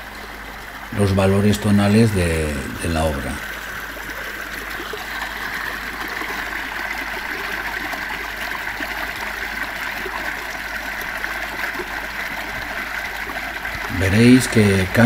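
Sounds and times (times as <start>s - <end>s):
waterfall and stream flowing: 0.0s - 15.0s.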